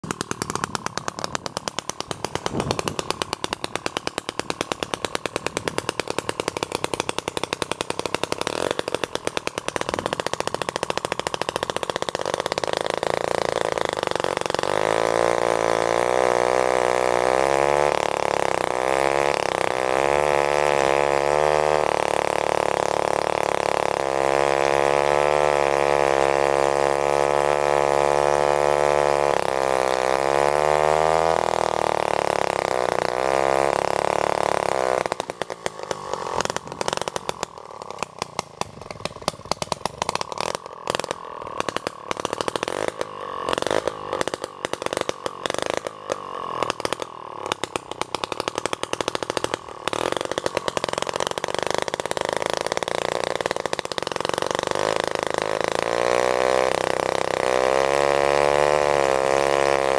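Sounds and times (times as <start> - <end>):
chainsaw cutting a log: 0.0 - 59.9.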